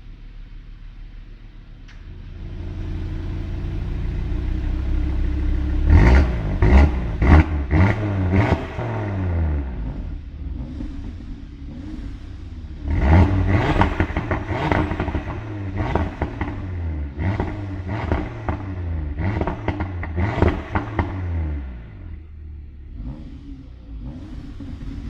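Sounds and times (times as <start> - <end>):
car engine idling and revving: 0.0 - 25.0
exhaust crackles and pops: 3.6 - 25.0.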